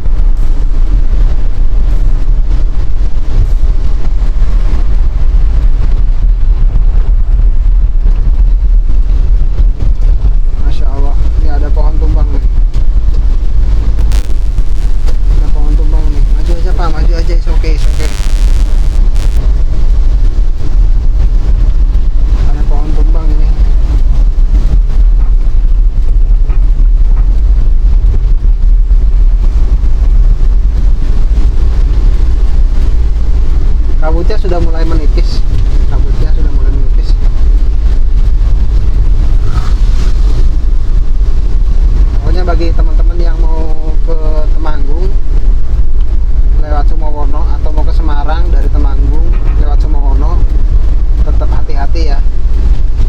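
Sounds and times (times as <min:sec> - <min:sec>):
car driving rumble: 0:00.0 - 0:51.7
wind buffeting microphone: 0:00.0 - 0:53.0.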